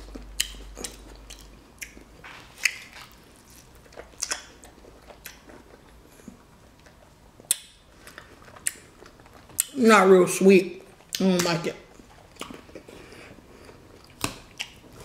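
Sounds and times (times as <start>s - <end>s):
wet chewing and lip-smacking: 0.0s - 9.8s, 10.8s - 15.0s.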